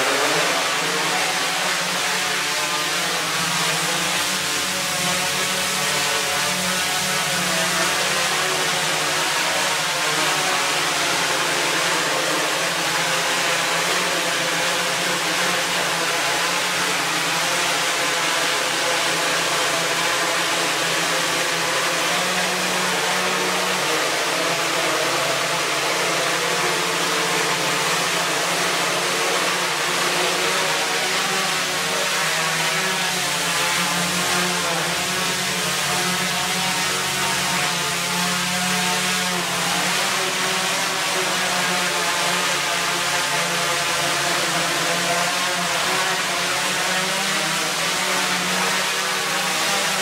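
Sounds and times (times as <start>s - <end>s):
quadcopter propellers whirring: 0.0s - 50.0s.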